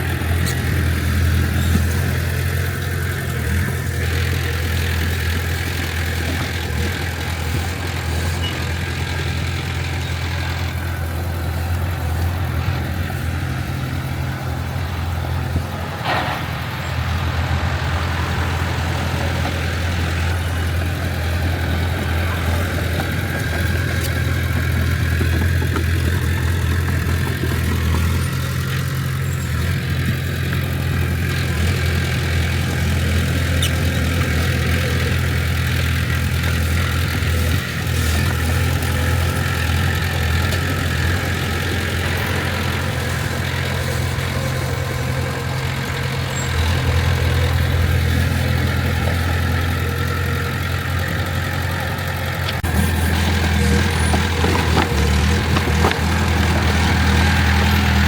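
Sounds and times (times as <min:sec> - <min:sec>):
bulldozer engine running: 0:00.0 - 0:58.0.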